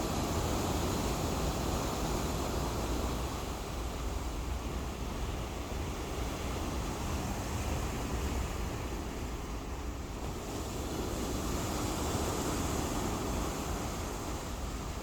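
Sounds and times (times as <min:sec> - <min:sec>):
ocean surf washing ashore: 0:00.0 - 0:15.0
wind rumbling on microphone: 0:00.0 - 0:15.0.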